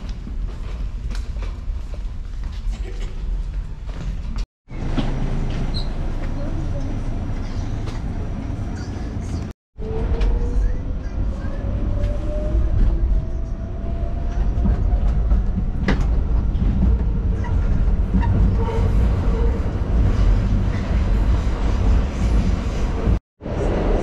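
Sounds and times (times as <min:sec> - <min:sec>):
subway train rumble: 0:00.0 - 0:24.0.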